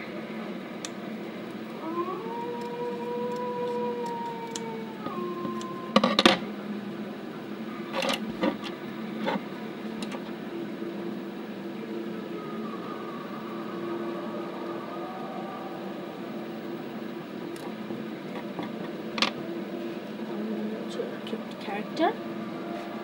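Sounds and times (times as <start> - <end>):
held humming tone: 0.0 - 23.0
steady background hum: 0.0 - 23.0.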